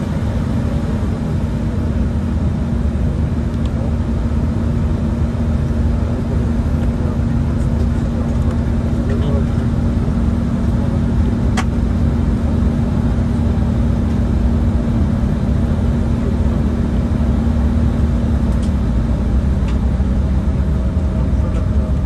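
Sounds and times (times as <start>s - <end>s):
jet engines rumbling in cabin: 0.0s - 22.0s.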